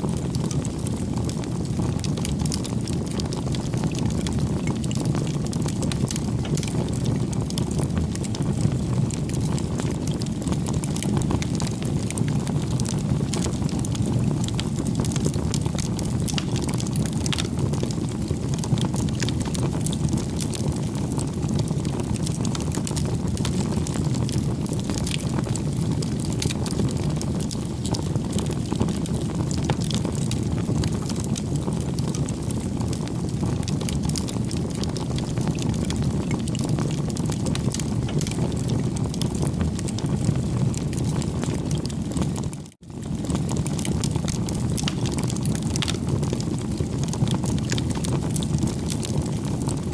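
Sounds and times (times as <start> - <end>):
bonfire burning: 0.0 - 49.9
fire popping and crackling: 0.0 - 49.9.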